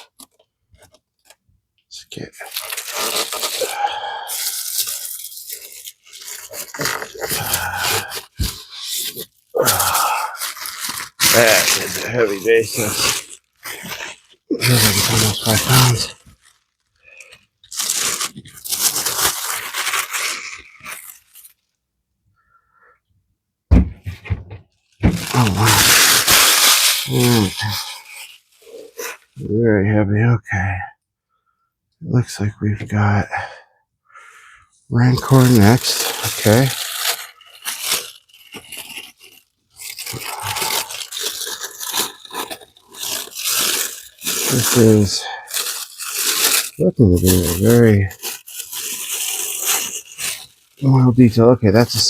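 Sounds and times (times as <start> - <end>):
packing material rustling and tearing: 0.0 - 1.4, 2.2 - 21.8, 23.7 - 29.4, 35.0 - 52.0.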